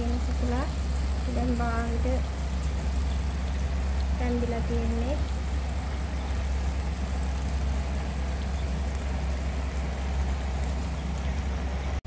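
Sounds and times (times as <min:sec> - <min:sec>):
oven fan humming: 0:00.0 - 0:12.0.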